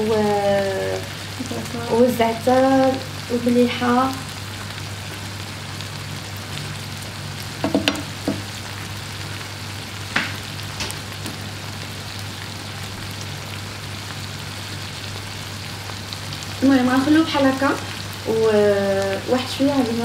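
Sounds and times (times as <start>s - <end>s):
prawns sizzling in a pan: 0.0s - 20.0s.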